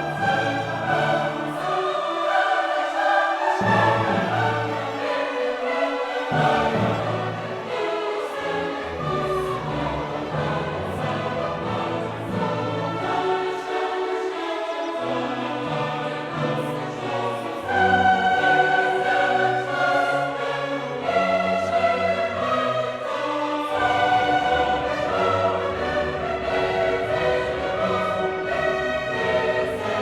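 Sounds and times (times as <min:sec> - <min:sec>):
choir singing long held notes: 0:00.0 - 0:30.0
orchestra playing: 0:00.0 - 0:30.0.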